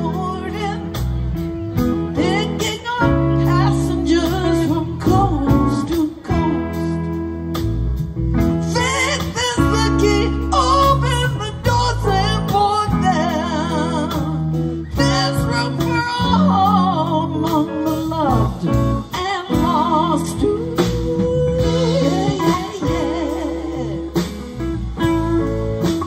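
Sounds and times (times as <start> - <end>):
woman singing with vibrato: 0.0 - 1.0, 2.1 - 7.1, 8.7 - 26.0
bass guitar: 0.0 - 26.0
drums: 0.0 - 26.0
electric guitars: 0.0 - 26.0.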